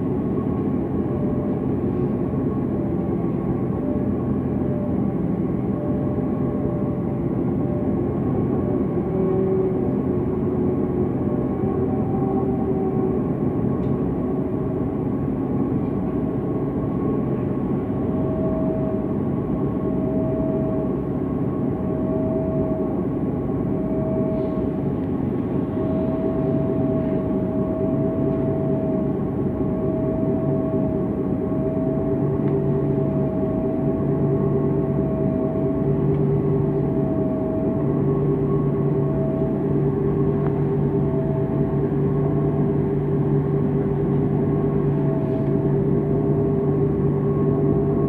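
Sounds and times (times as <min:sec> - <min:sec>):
bus engine idling: 0:00.0 - 0:48.0.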